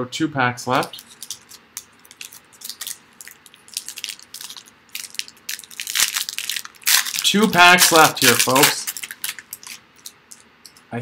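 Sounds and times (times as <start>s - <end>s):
wrapper crinkling: 0.8s - 10.5s.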